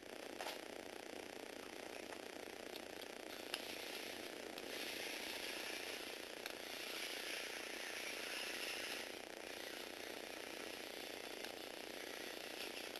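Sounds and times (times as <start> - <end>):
motor whirring plastic gears: 2.0 - 12.9.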